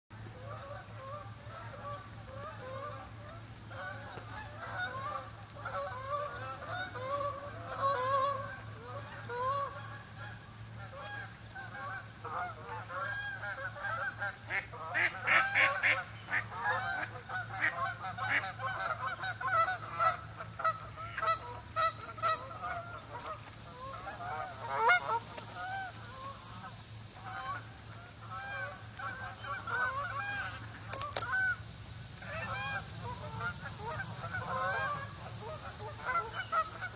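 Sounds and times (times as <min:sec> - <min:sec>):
geese honking: 0:00.3 - 0:36.9.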